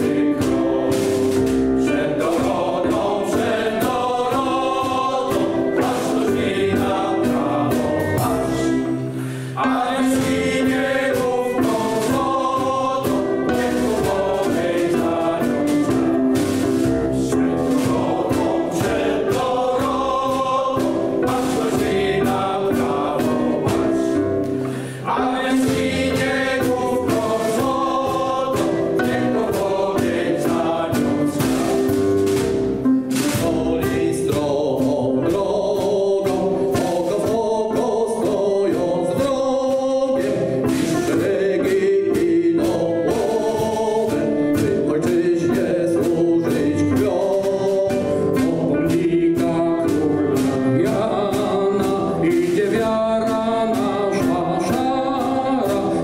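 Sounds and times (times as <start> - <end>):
instrumental march accompaniment: 0.0 - 56.0
mixed choir singing: 0.0 - 56.0.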